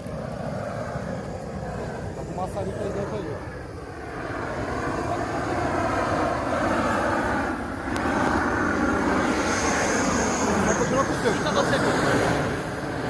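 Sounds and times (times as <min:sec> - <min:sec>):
gas blowtorch rushing: 0:00.0 - 0:13.0.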